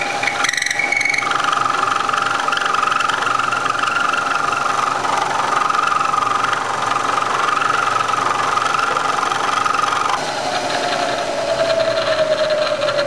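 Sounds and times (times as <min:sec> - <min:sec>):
machine hum: 0:00.0 - 0:13.0
milling machine whine: 0:00.0 - 0:13.0.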